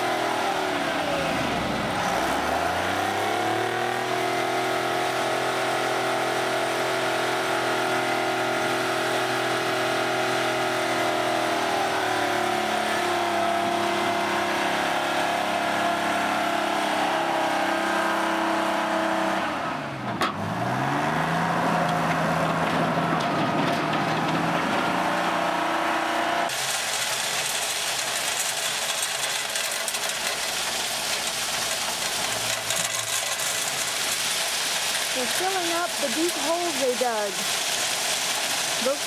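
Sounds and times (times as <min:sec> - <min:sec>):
heavy machine engine running: 0:00.0 - 0:39.0.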